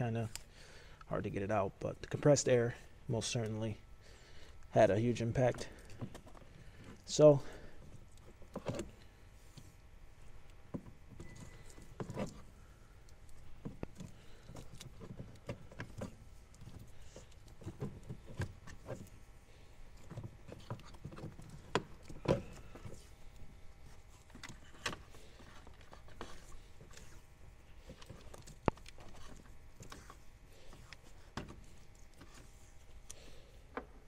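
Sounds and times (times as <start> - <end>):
tape and wires rustling: 0.0 - 34.0.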